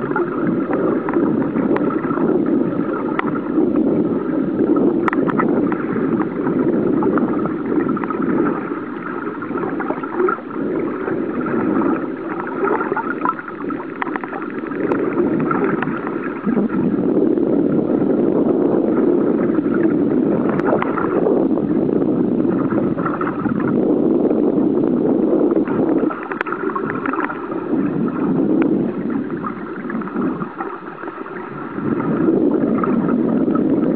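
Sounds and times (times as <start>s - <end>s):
underwater gurgling rush: 0.0s - 33.9s.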